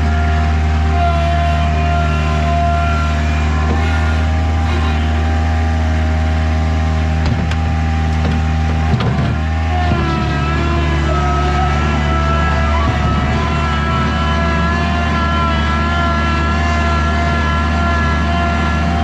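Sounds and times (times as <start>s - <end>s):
high whine: 0.0s - 19.0s
skid steer engine running: 0.0s - 19.0s.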